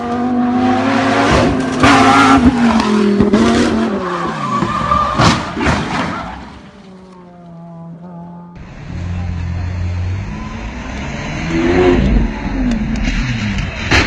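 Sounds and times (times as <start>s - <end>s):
tyres skidding: 0.0s - 14.0s.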